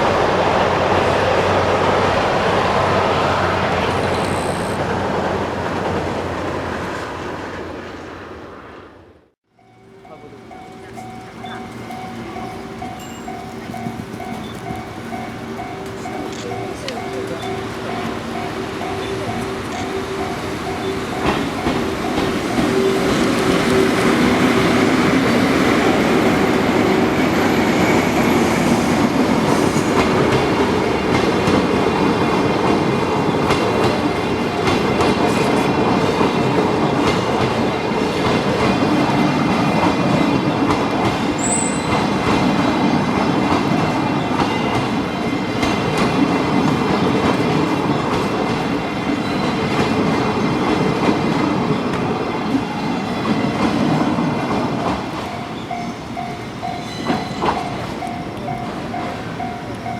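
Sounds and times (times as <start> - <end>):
train wheel-on-rail noise: 0.0 - 59.9.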